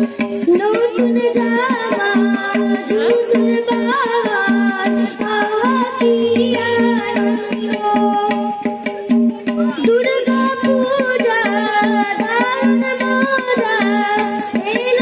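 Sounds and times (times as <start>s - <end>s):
boy singing: 0.0s - 15.0s
harmonium: 0.0s - 15.0s
tabla rhythm: 0.0s - 15.0s.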